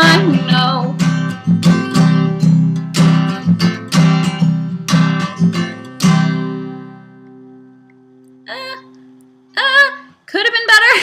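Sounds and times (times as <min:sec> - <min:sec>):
acoustic guitar strumming: 0:00.0 - 0:09.6.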